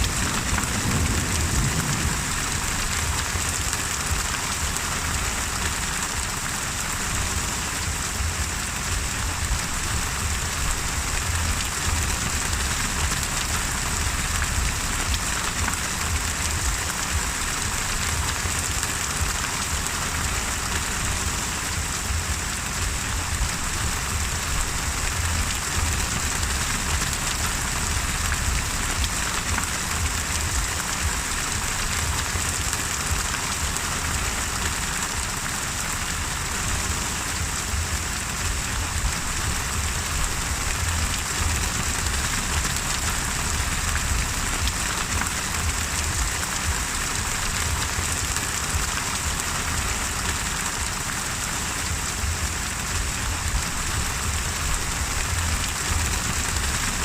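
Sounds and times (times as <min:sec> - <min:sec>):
low rumble: 0:00.0 - 0:34.6, 0:36.3 - 0:50.9, 0:51.8 - 0:57.0
steady rain falling: 0:00.0 - 0:57.0.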